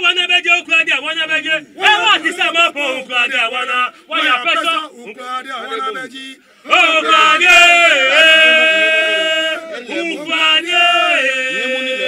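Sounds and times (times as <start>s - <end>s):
men singing a slow chant: 1.8s - 12.0s.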